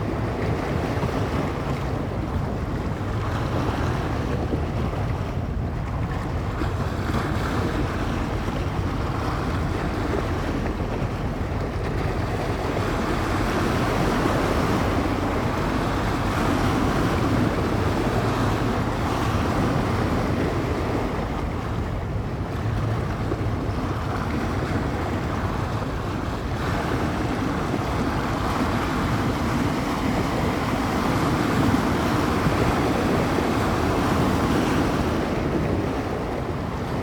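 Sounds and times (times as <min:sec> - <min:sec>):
waves washing against shore: 0:00.0 - 0:37.0
wind buffeting microphone: 0:00.0 - 0:37.0.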